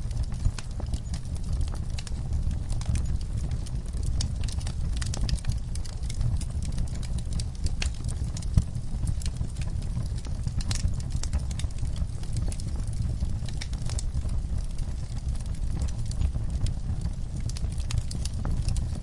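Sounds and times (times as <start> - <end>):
fire crackling and popping: 0.0 - 19.0
low steady rumble: 0.0 - 19.0.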